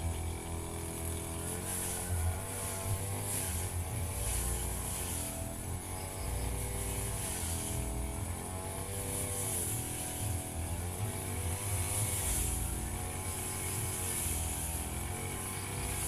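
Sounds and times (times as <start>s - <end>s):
brush cutter cutting grass: 0.0s - 16.0s.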